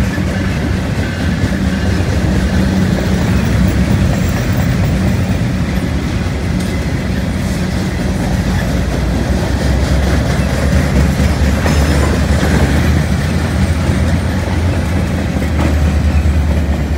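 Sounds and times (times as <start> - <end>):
freight train cars rolling past: 0.0 - 16.9.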